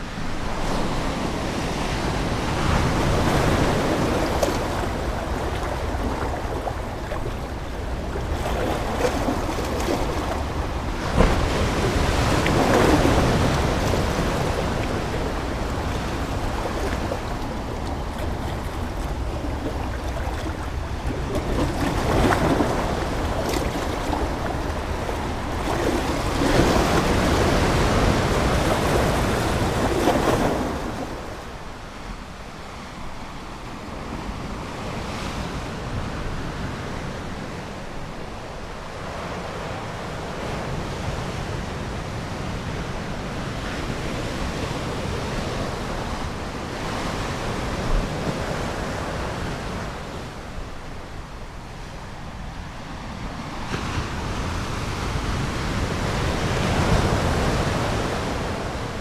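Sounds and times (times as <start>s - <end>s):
ocean waves breaking ashore: 0.0s - 59.0s.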